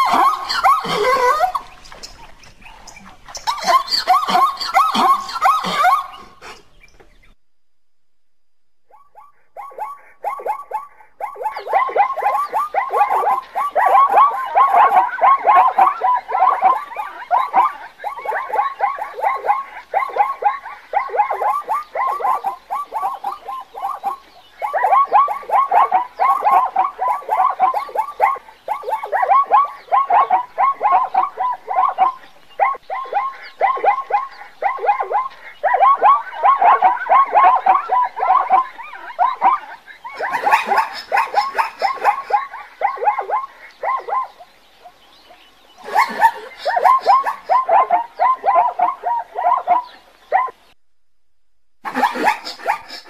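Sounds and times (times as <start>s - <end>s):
zebra barking yelps: 0.0s - 6.9s, 8.9s - 50.8s, 51.8s - 53.0s.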